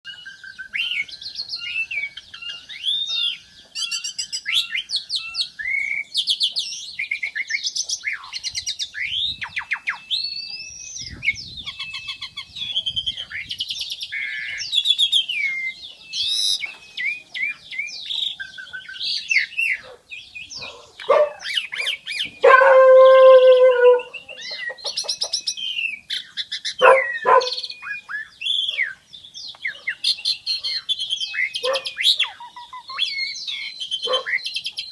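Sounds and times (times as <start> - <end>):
starling singing: 0.1 - 34.9.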